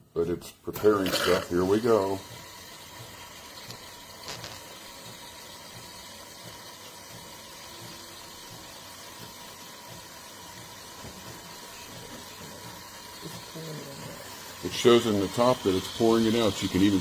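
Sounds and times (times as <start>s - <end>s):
espresso machine humming: 1.0s - 17.0s.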